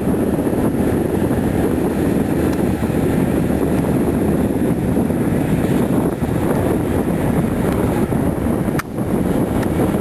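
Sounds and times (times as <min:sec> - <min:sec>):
boat engines rumbling: 0:00.0 - 0:10.0
wind noise: 0:00.0 - 0:10.0.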